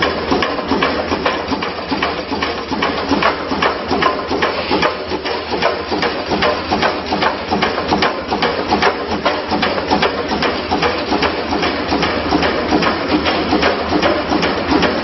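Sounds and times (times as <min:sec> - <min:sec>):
machine clattering: 0:00.0 - 0:15.0.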